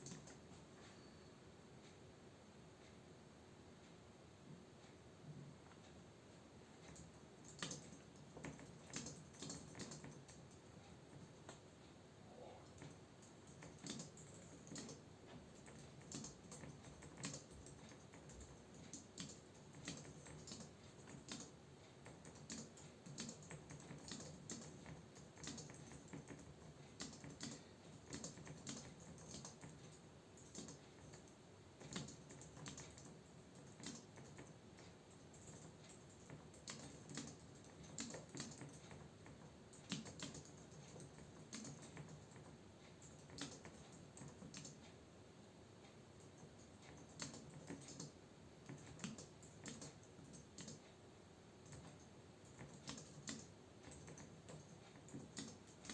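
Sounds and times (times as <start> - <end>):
keyboard typing: 0.0 - 1.2, 6.8 - 11.6, 12.6 - 45.0, 46.1 - 50.8, 51.6 - 55.9.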